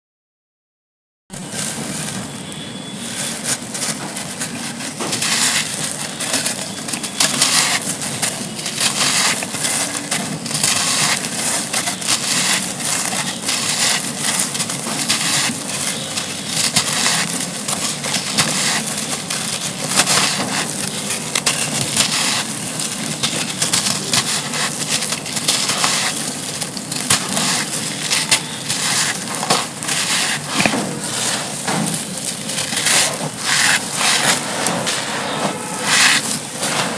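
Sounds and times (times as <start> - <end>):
sand crunching and crackling: 1.4 - 36.9.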